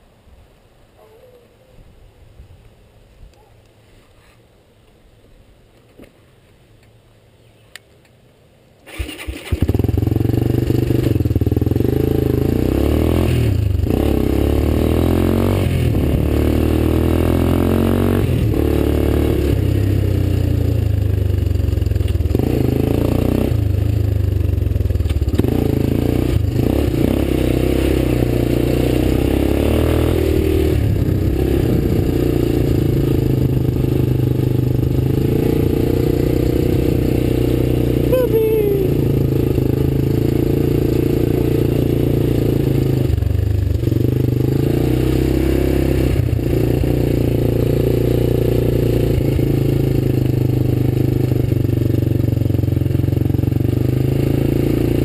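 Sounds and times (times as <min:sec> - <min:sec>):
quad engine revving: 0:08.9 - 0:55.0.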